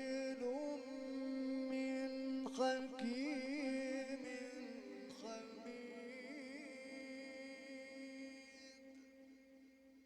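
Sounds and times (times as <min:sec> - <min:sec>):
man chanting melodically: 0:00.0 - 0:09.1.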